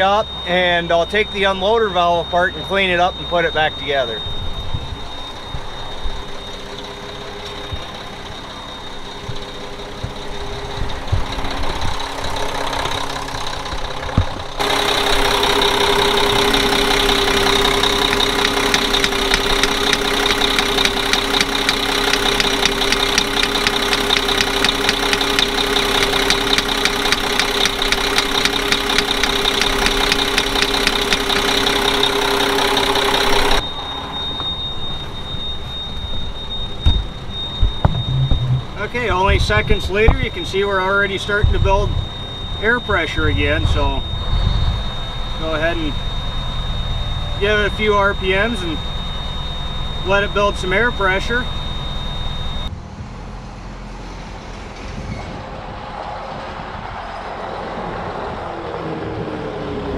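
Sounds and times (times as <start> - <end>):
diesel truck engine idling: 0.0 - 52.7.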